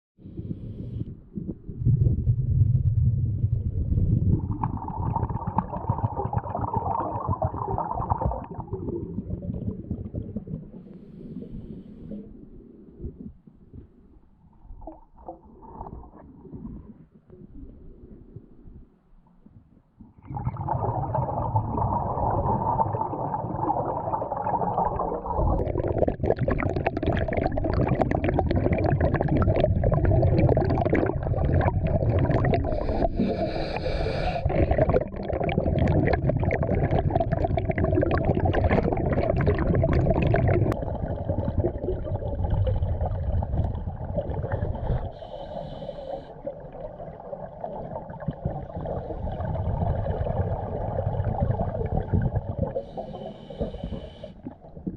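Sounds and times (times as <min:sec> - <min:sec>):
underwater gurgling and bubbling: 0:00.2 - 0:54.9.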